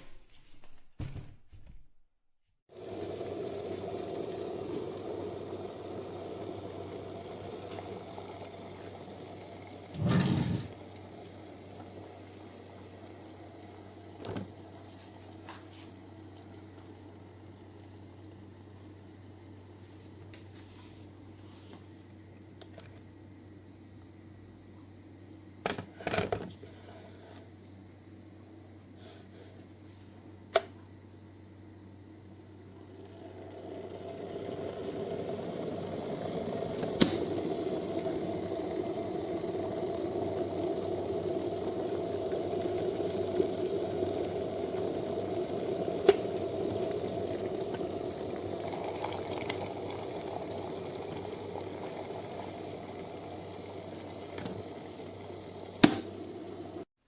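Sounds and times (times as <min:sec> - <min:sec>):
electric kettle heating water: 0:02.7 - 0:56.9.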